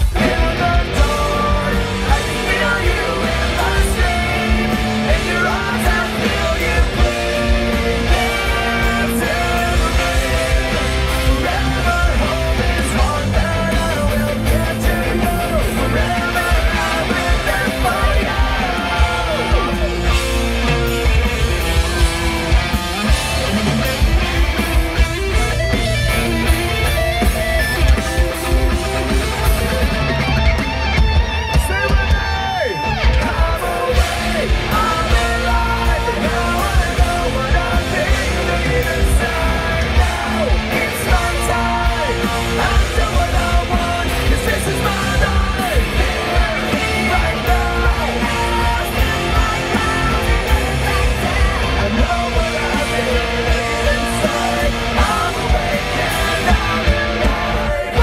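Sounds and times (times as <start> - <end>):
person singing: 0.0 - 20.8, 31.5 - 58.0
live rock band playing: 0.0 - 58.0.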